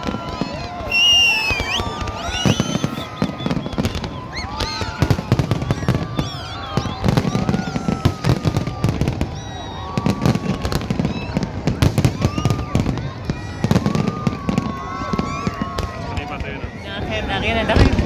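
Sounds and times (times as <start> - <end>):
fireworks bangs and crackles: 0.0 - 18.0
high whistling fireworks: 0.0 - 18.0.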